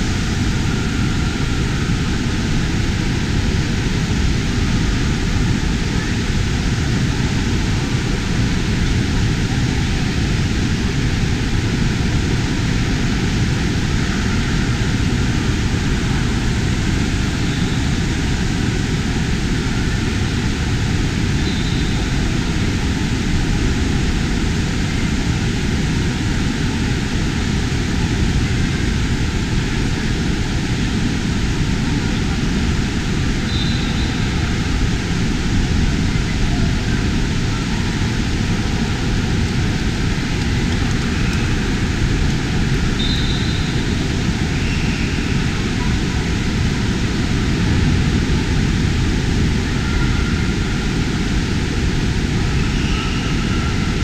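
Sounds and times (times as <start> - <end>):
rushing roar of water and air: 0.0 - 54.0.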